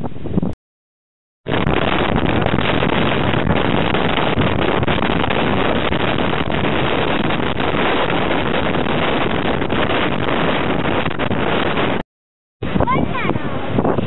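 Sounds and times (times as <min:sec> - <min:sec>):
strong wind buffeting microphone: 0:00.0 - 0:00.6, 0:01.4 - 0:12.0, 0:12.6 - 0:14.0.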